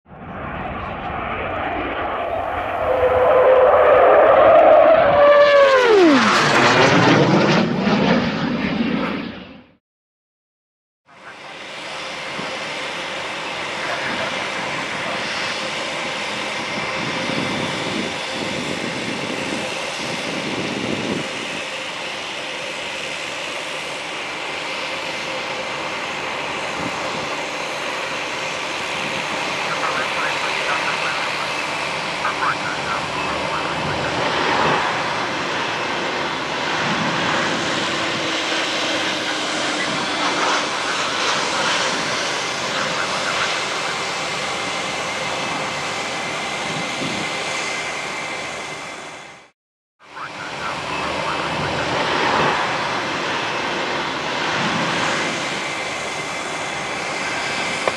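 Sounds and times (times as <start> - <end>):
jet engine rushing: 0.1 - 9.8, 11.1 - 49.5, 50.1 - 57.9.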